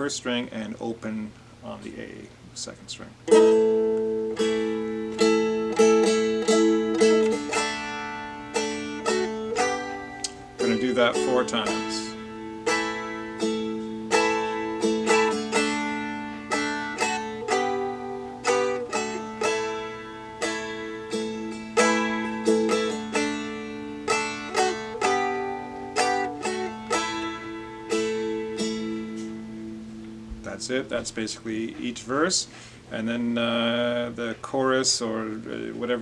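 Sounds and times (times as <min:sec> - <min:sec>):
dulcimer strumming: 0:03.2 - 0:36.0.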